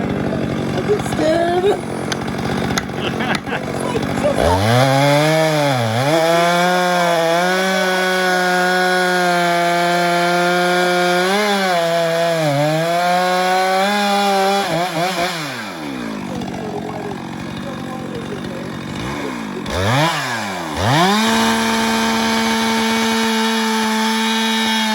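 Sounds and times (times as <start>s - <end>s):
chainsaw cutting wood: 0.0s - 24.9s.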